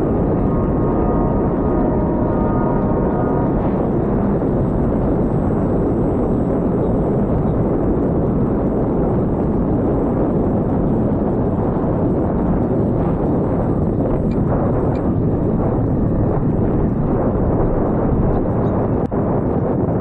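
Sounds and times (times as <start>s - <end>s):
faint whine: 0.0s - 20.0s
propeller noise: 0.0s - 20.0s
wind rush: 0.0s - 20.0s.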